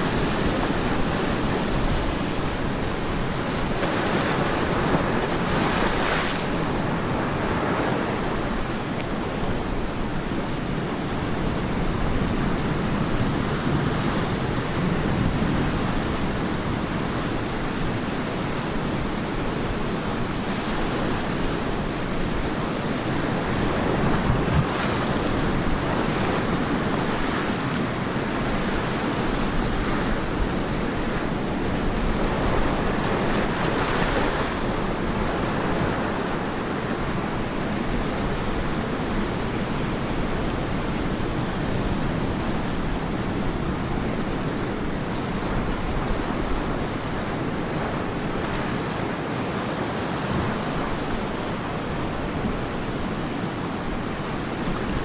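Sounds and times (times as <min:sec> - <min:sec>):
ocean surf breaking on beach: 0:00.0 - 0:55.0
wind on microphone: 0:00.0 - 0:55.0.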